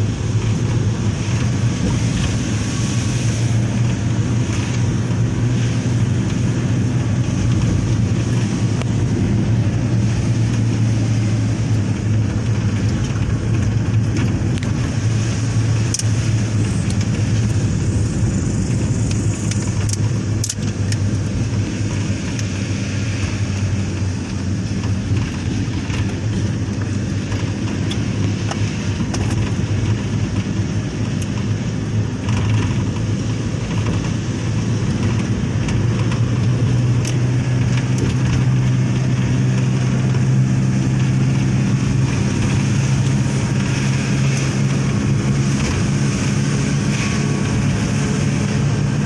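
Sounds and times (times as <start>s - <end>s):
truck engine driving on dirt road: 0.0s - 49.0s.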